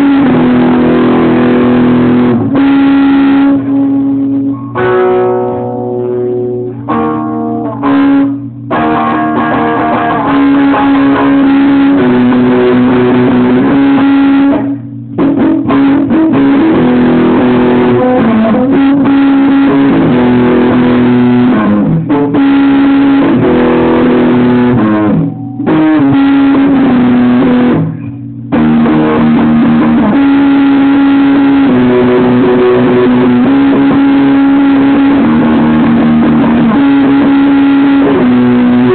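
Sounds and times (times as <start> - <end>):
electric guitar sustained notes: 0.0 - 38.9.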